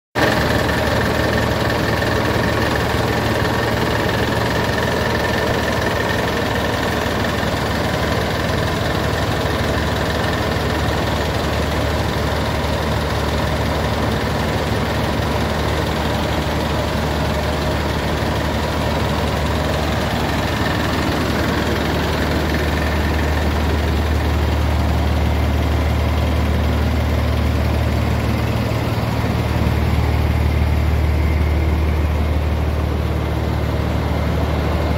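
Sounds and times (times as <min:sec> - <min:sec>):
diesel truck engine rumbling: 0:00.2 - 0:34.9.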